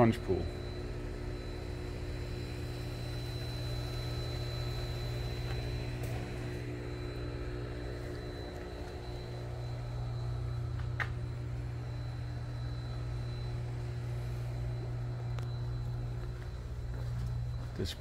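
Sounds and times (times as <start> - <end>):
low machine hum: 0.0 - 18.0
thin high whine: 0.0 - 18.0.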